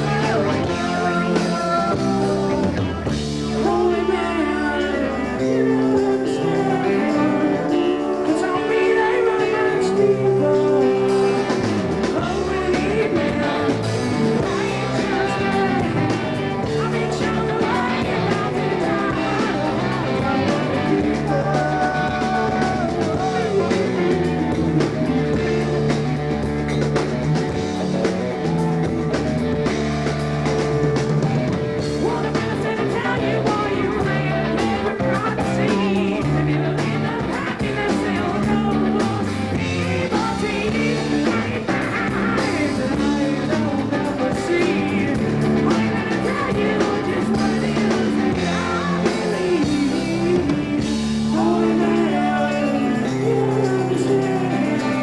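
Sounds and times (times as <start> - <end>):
man singing: 0.0 - 26.0, 31.8 - 55.0
live rock band playing: 0.0 - 55.0.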